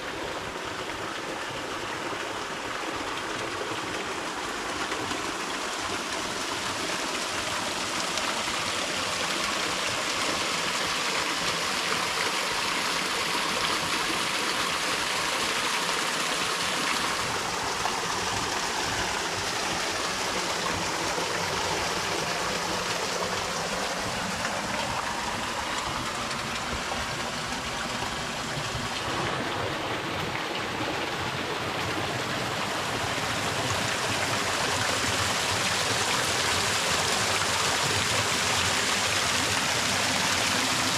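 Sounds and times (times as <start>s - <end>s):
waterfall splashing: 4.5s - 40.9s.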